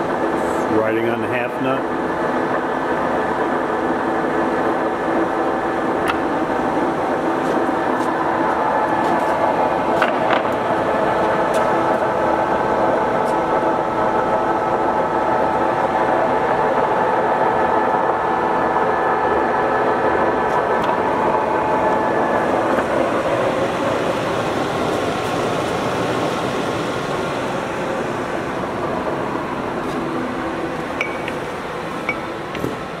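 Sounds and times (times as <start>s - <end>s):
lathe running with mechanical hum: 0.0s - 33.0s.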